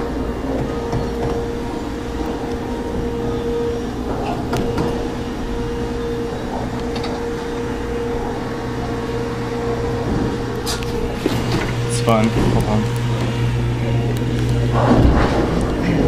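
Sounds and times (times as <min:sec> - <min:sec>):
arcade claw machine humming: 0:00.0 - 0:16.0.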